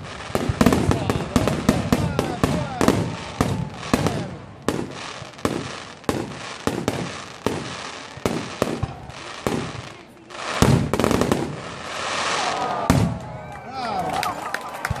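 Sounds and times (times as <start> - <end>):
fireworks bursting with bangs: 0.0 - 13.5
fireworks crackle: 0.0 - 15.0.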